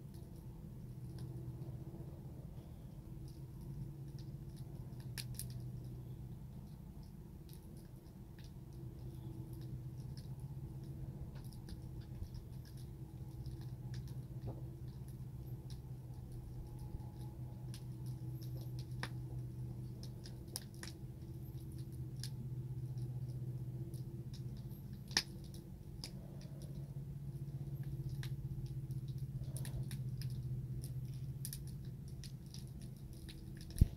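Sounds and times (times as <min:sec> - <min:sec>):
steady low hum: 0:00.0 - 0:33.9
wood fire crackling: 0:00.0 - 0:33.9.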